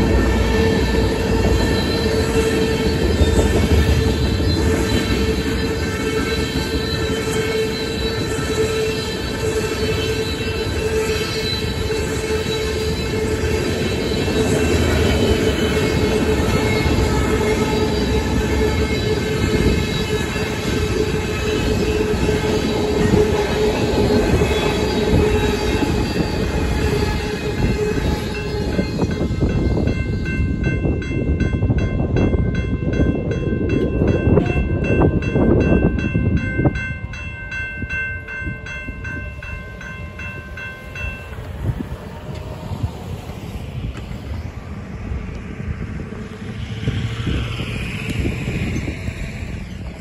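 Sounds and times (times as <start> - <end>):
crossing warning bell ringing: 0.0 - 44.1
freight train wheel squeal: 0.0 - 50.0.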